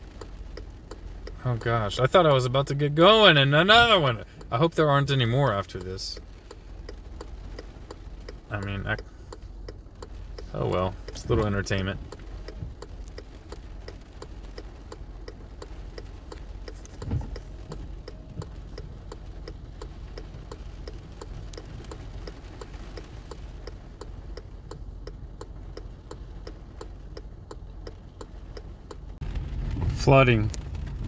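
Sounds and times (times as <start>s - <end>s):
car turn signal clicking: 0.0s - 29.3s
low steady hum: 0.0s - 31.0s.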